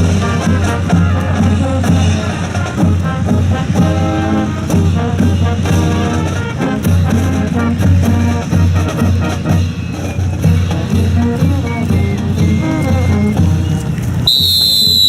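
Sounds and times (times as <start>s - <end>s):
brass-led swing music: 0.0s - 15.0s.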